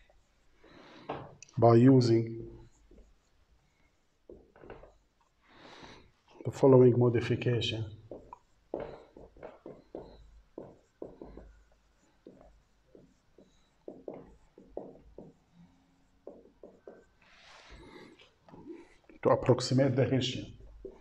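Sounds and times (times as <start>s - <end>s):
marker writing on whiteboard: 0.0s - 21.0s.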